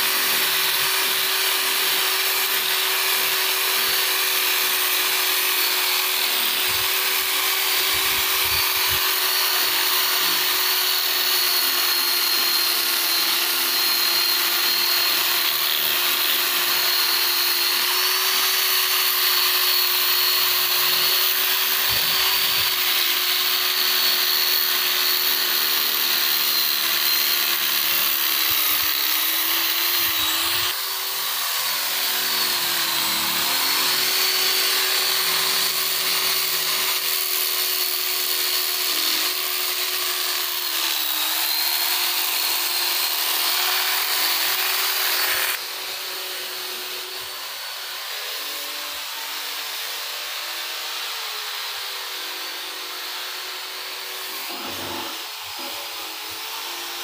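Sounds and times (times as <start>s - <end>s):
power drill sanding wood: 0.0s - 57.0s.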